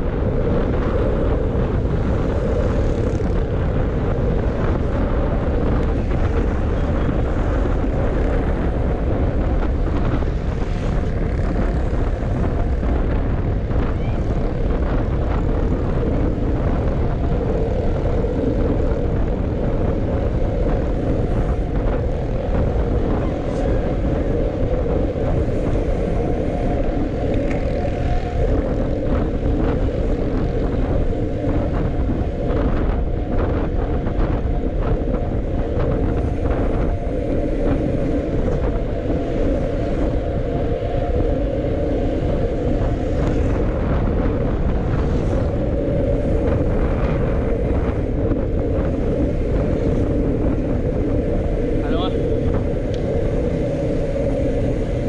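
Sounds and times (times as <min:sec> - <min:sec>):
road noise: 0:00.0 - 0:55.0
wind rumble on microphone: 0:00.0 - 0:55.0.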